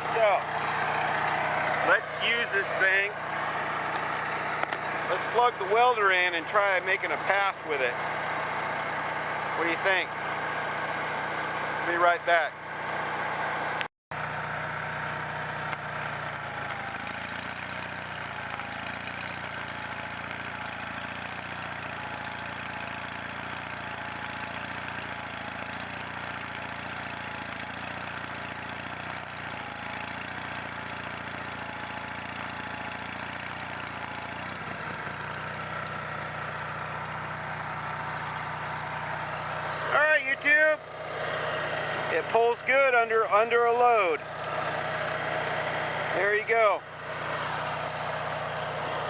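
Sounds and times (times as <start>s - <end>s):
generator engine running: 0.0s - 49.0s.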